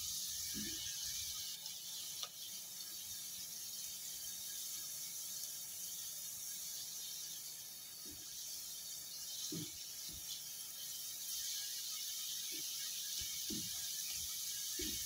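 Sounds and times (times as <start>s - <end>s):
onions sizzling in hot oil: 0.0s - 15.0s
spatula stirring in a pot: 0.0s - 15.0s.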